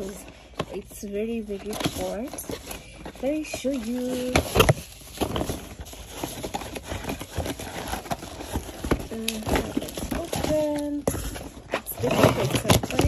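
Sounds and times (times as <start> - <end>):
cardboard box being handled: 0.0 - 13.0.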